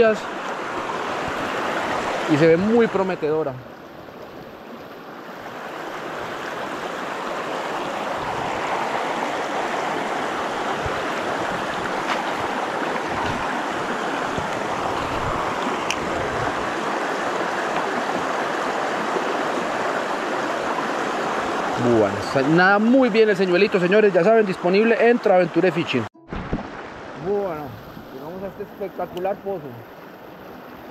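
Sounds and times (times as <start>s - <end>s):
creek running over rocks: 0.0s - 30.9s.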